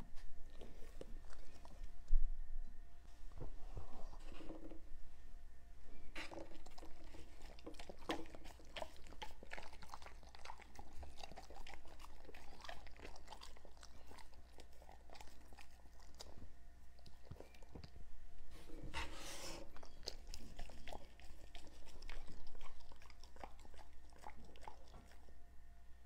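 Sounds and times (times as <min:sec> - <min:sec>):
dogs chewing and licking: 0:00.2 - 0:02.1, 0:06.2 - 0:25.4.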